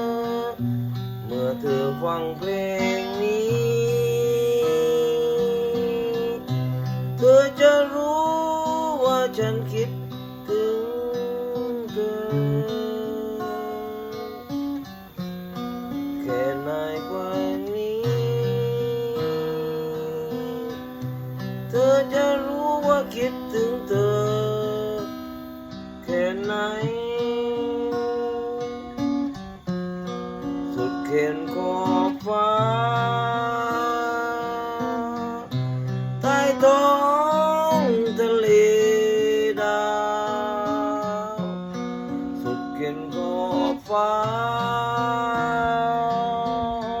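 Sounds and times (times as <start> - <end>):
person singing slow song: 0.0 - 47.0
strummed acoustic guitar: 0.0 - 47.0.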